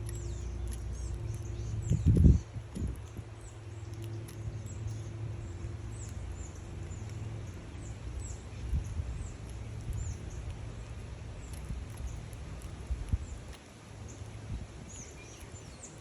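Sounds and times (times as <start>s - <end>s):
light clicks: 0.0s - 16.0s
small birds chirping: 0.0s - 16.0s.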